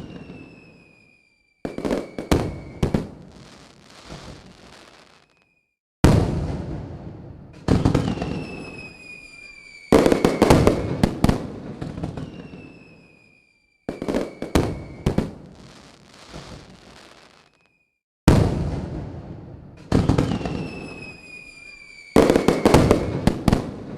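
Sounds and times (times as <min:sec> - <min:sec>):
fireworks booming: 0:00.0 - 0:05.4, 0:06.0 - 0:17.6, 0:18.3 - 0:23.9
firework whistles: 0:00.0 - 0:05.8, 0:07.6 - 0:18.0, 0:19.9 - 0:23.9
fireworks bangs and crackling: 0:00.0 - 0:23.9.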